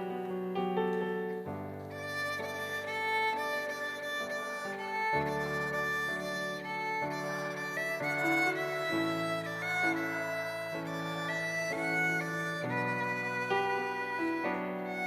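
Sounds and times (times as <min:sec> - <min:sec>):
bowed violin-like melody: 0:00.0 - 0:15.0.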